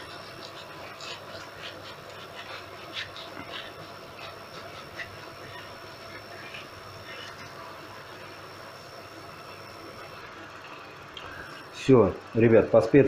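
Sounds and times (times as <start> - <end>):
oil sizzling with meat: 0.0 - 13.0.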